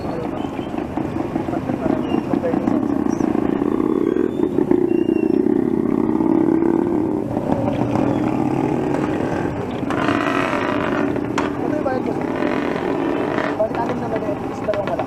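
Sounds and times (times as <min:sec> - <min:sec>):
street noise: 0:00.0 - 0:15.0
vehicle engine running: 0:00.0 - 0:15.0.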